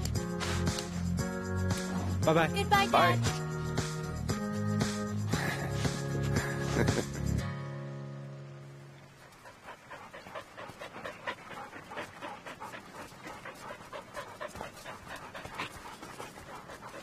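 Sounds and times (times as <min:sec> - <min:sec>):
dogs panting: 0:00.0 - 0:07.4, 0:09.1 - 0:17.0.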